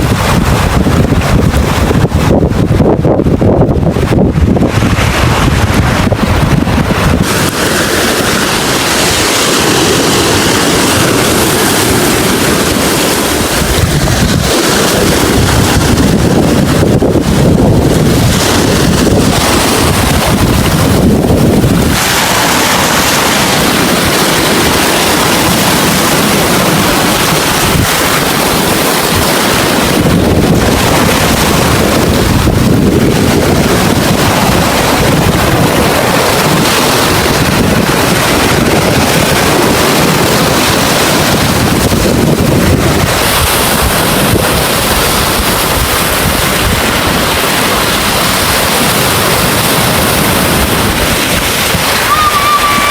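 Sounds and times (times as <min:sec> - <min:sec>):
waves surging and washing: 0:00.0 - 0:52.9
wind blowing across microphone: 0:00.0 - 0:52.9.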